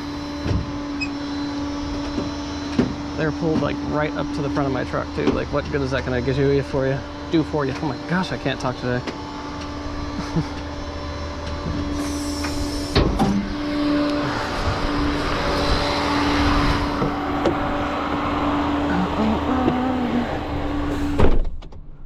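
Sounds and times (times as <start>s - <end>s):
truck engine running: 0.0s - 21.4s.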